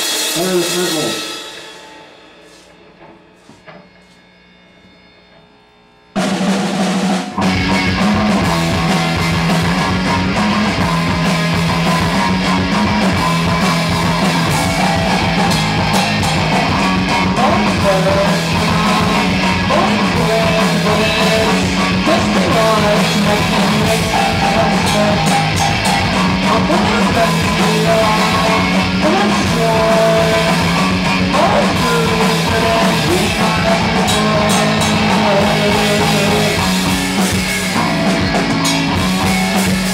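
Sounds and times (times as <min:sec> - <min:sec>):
live rock band playing: 0:00.0 - 0:03.4, 0:06.2 - 0:39.9
pounding drum kit: 0:00.0 - 0:03.8, 0:06.2 - 0:39.9.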